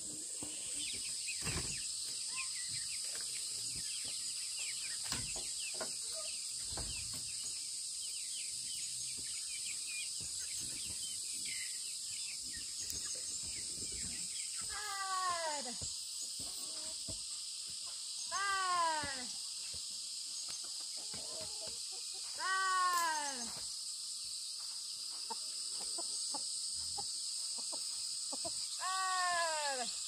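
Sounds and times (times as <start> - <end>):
birds chirping: 0.0 - 30.0
insect drone: 0.0 - 30.0.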